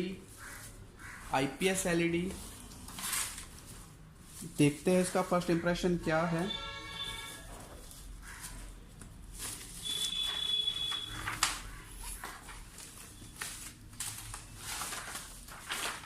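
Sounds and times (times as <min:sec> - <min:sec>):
packaging rustling and scraping: 0:00.4 - 0:05.6, 0:07.0 - 0:16.0.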